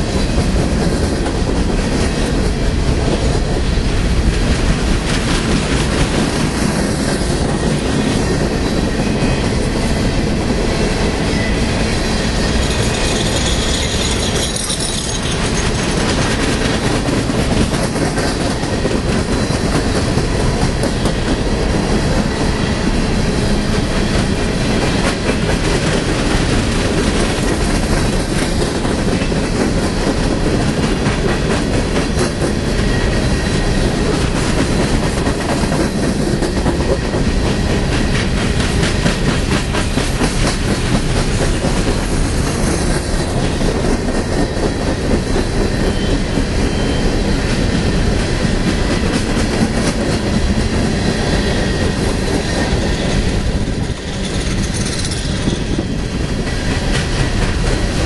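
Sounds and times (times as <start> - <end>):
steel train wheels rumbling on rail: 0.0 - 58.0.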